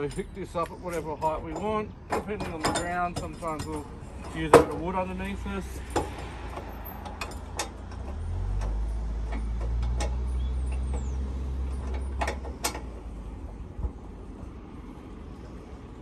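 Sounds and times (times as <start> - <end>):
sharp metal clicks and knocks: 0.0 - 14.2.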